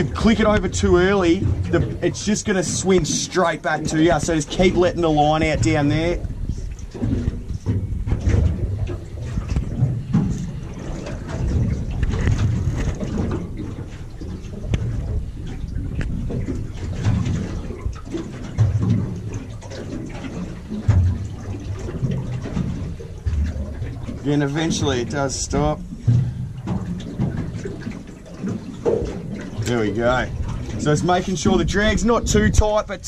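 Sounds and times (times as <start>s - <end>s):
water lapping against boat hull: 0.0s - 33.0s
wind rumble on microphone: 0.0s - 33.0s.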